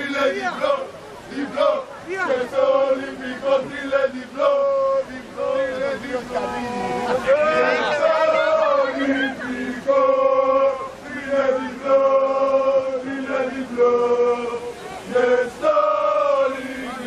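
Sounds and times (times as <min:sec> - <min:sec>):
football supporters chanting: 0:00.0 - 0:17.0.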